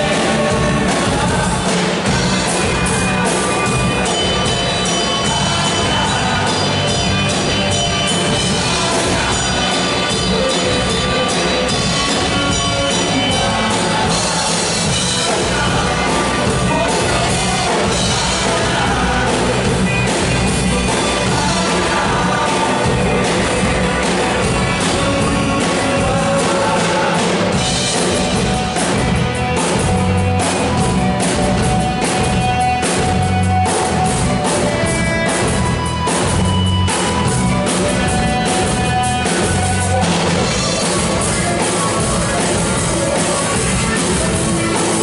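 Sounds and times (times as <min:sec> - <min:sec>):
man singing: 0:00.0 - 0:35.6, 0:36.9 - 0:45.0
drum kit: 0:00.0 - 0:45.0
electric guitar: 0:00.0 - 0:45.0
rock band playing: 0:00.0 - 0:45.0.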